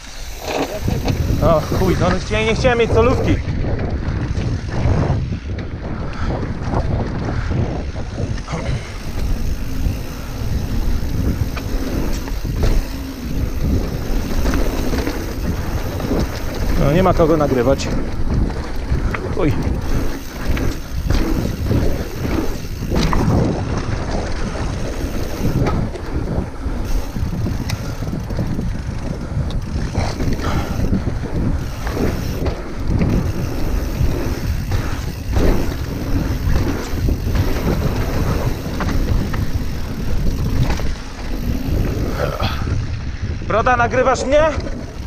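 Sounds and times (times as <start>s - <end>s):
tyres rumbling on gravel: 0.0s - 5.0s, 6.5s - 45.0s
bike knocking and rattling: 0.0s - 45.0s
wind buffeting microphone: 0.0s - 45.0s.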